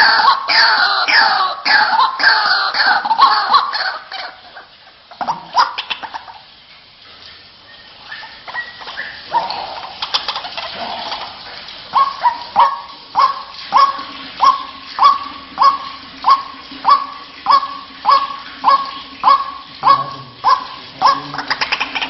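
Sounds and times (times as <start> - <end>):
waterhen calling harsh notes: 0.0 - 6.6, 7.6 - 22.0.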